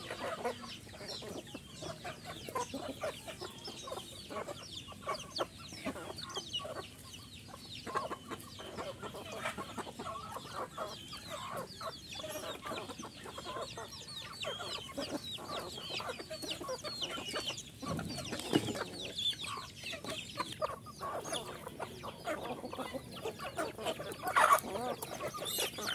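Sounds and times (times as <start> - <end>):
chickens clucking: 0.0 - 25.9
chicks chirping: 0.0 - 25.9.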